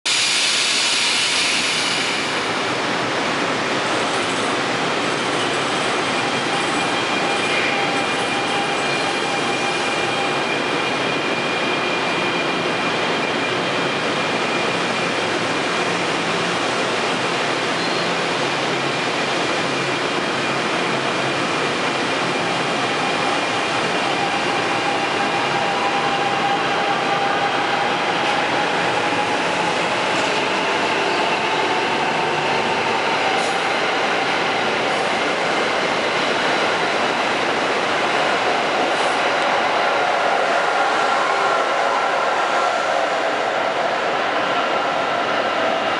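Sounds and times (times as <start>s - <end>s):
train wheels rumbling on rail: 0.1s - 45.9s.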